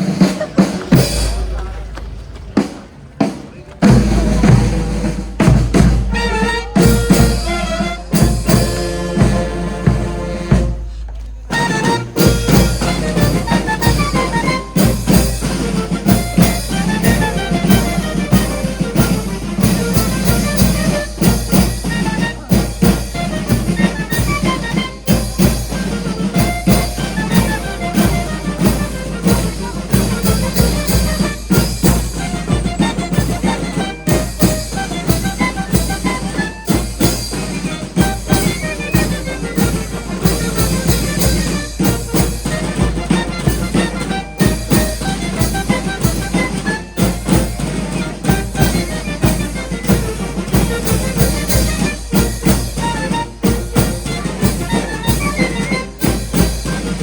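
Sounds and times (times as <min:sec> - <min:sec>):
music with drums and brass: 0:00.0 - 0:57.0.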